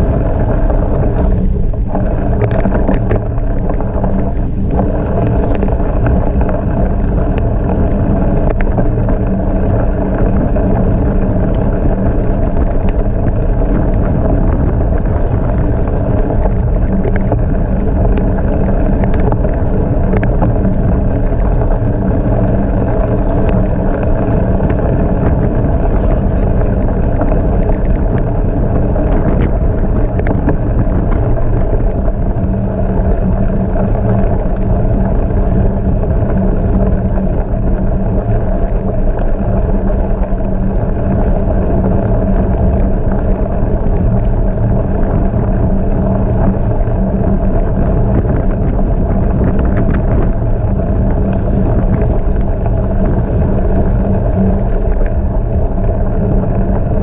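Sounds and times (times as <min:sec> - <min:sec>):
bicycle rumble: 0:00.0 - 0:57.0
small ticks and rattles: 0:00.0 - 0:57.0
wind buffeting microphone: 0:00.0 - 0:57.0.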